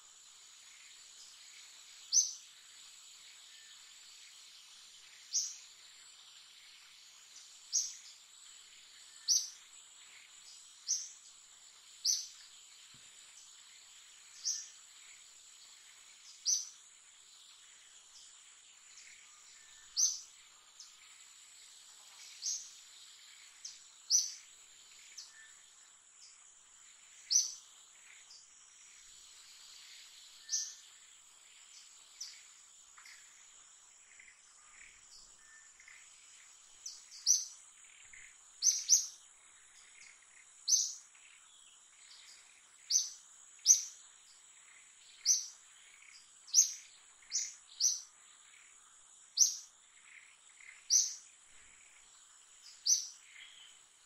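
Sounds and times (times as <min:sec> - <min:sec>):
bird chirping: 0:00.0 - 0:26.4, 0:27.0 - 0:53.9.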